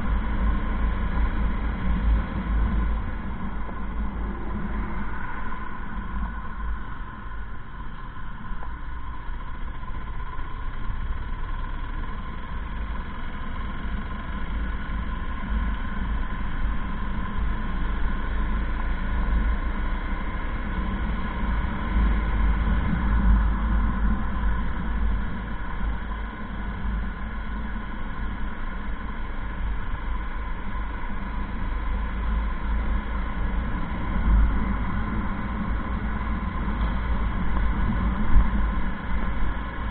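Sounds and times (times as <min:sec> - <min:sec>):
motorcycle engine hum: 0:00.0 - 0:39.9
wind rumble on microphone: 0:00.0 - 0:39.9.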